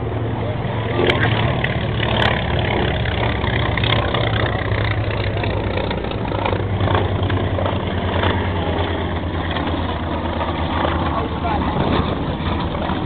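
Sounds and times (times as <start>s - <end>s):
propeller plane engine flying over: 0.0s - 13.0s.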